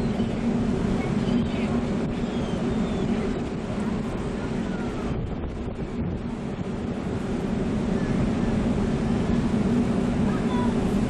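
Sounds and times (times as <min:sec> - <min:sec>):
ship engines droning: 0:00.0 - 0:11.0
water noise: 0:00.0 - 0:11.0
wind: 0:00.0 - 0:11.0.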